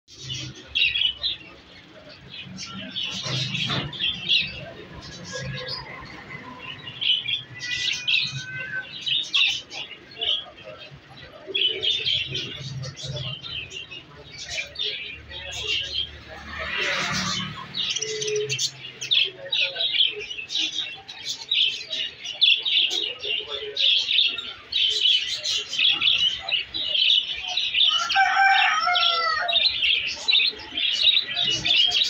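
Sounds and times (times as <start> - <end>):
birds chirping and twittering: 0.1 - 32.0.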